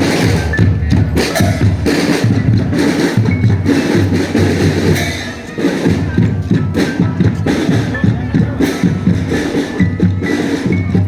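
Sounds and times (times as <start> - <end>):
marching drum band playing: 0.0 - 11.0
melodic line over drums: 0.0 - 11.0.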